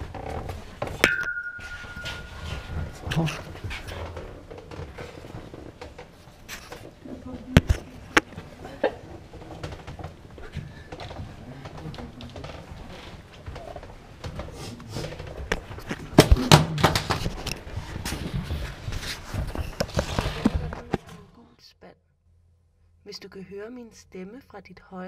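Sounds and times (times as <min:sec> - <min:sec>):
people shuffling about: 0:00.4 - 0:21.4.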